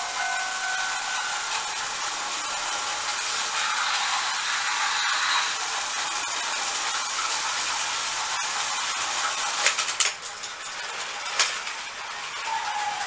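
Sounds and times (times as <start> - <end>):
clicks and clatter of toy track: 0.0 - 13.0
toy train motors whirring: 0.0 - 13.0.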